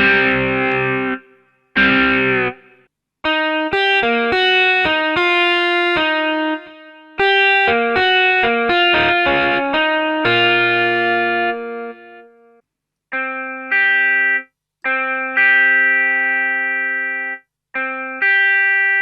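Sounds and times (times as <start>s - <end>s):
keyboard playing guitar tone: 0.0s - 19.0s.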